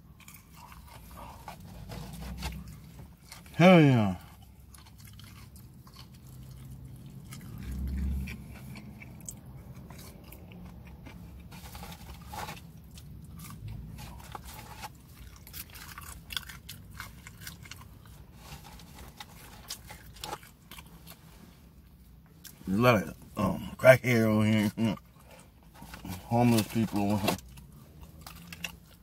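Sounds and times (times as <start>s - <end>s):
chewing crunchy fries: 0.0s - 29.0s.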